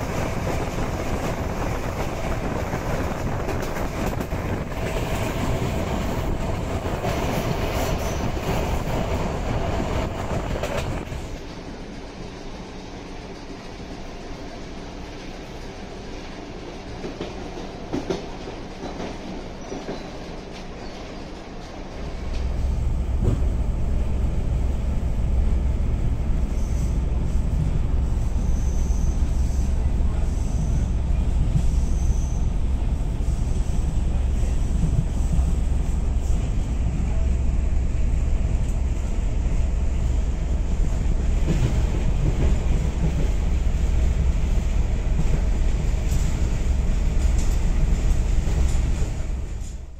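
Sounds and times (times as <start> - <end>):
train rumbling inside carriage: 0.0 - 49.9.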